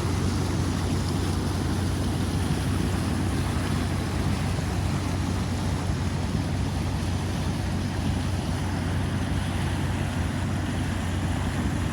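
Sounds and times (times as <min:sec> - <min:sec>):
floodwater rushing down a creek: 0:00.0 - 0:11.9.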